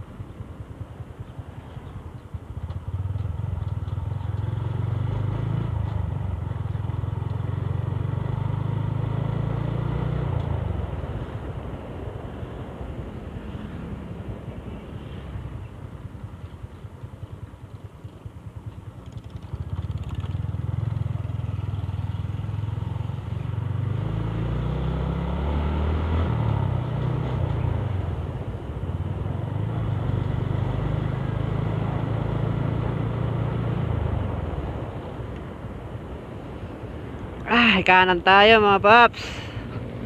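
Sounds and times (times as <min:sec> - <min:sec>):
motorcycle engine: 0:00.0 - 0:37.0.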